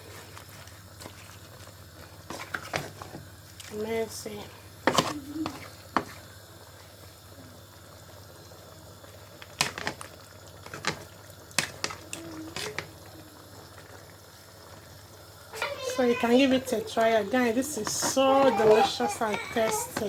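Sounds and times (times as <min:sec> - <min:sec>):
stew bubbling in a pot: 0:00.0 - 0:20.0.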